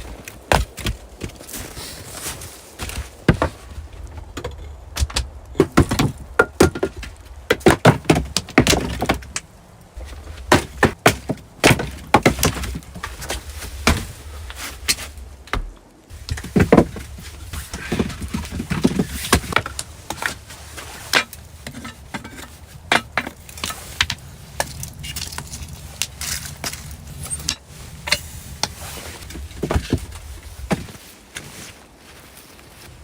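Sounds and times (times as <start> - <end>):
dull thuds: 0.0 - 9.4, 10.0 - 24.8, 26.3 - 31.0
sharp knocks and cracks: 2.8 - 14.1, 14.8 - 20.4, 21.1 - 30.9.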